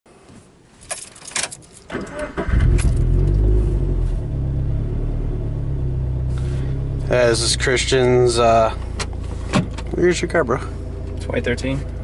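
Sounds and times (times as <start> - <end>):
car engine starting and idling: 1.8 - 12.0.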